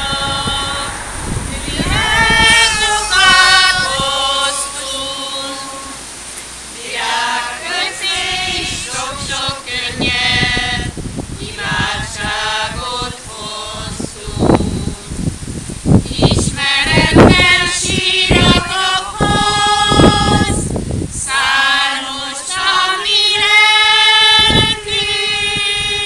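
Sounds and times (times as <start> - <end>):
women singing together: 0.0 - 26.0.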